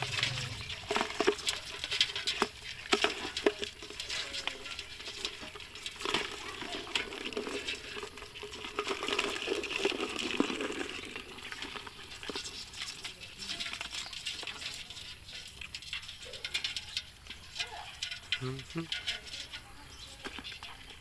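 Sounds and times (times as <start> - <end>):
crab shells clicking and scratching: 0.0 - 21.0.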